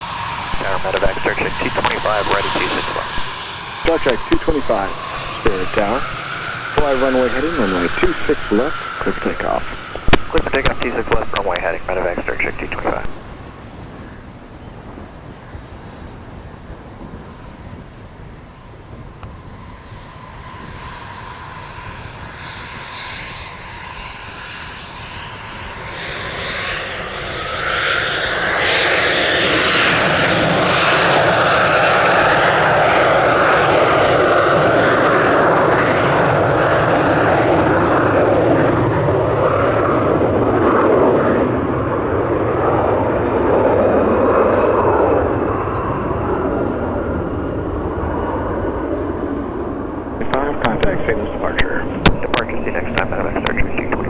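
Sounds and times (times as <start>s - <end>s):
jet engines spooling up: 0.0s - 54.0s.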